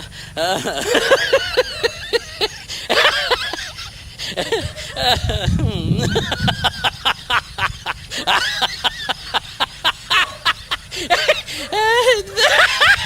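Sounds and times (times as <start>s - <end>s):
person laughing: 0.4s - 13.0s.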